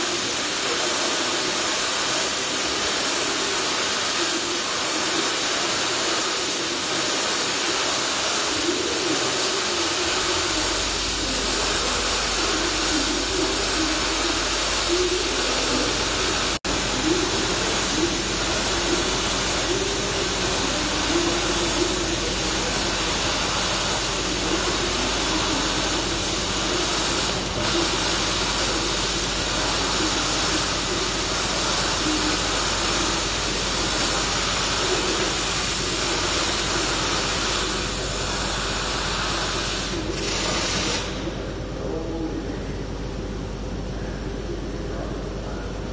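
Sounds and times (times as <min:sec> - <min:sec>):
welding arcs crackling and hissing: 0:00.0 - 0:41.8.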